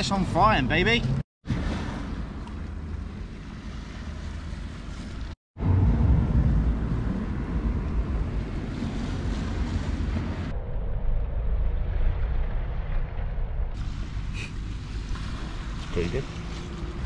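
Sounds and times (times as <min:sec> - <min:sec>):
sea noise: 0:01.4 - 0:17.0
wind buffeting microphone: 0:01.5 - 0:17.0.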